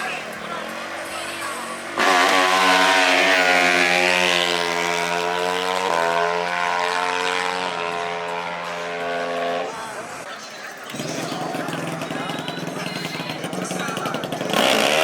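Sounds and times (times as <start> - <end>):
small engine running at high revs: 0.0 - 9.9, 10.9 - 15.0.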